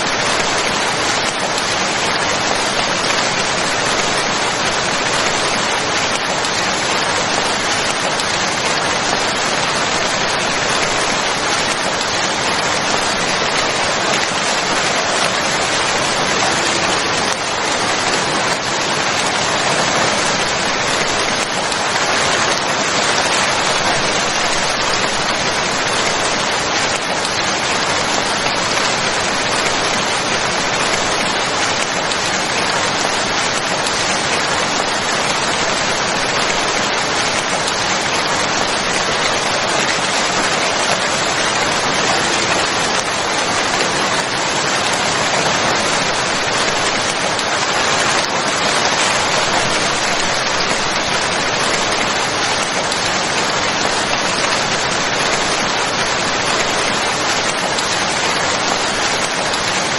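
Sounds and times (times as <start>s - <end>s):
heavy rainfall: 0.0s - 59.9s.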